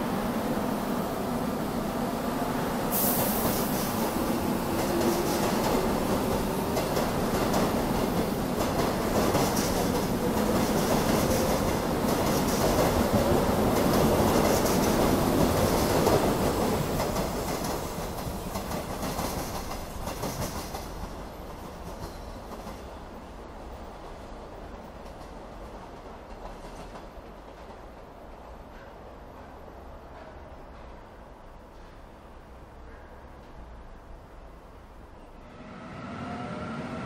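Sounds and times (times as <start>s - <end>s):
train rumbling past: 0.0s - 37.0s.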